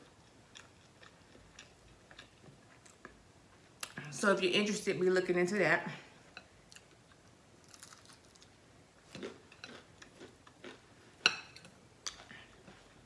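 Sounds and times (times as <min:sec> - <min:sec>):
person chewing food: 0:00.0 - 0:04.0, 0:06.3 - 0:13.0.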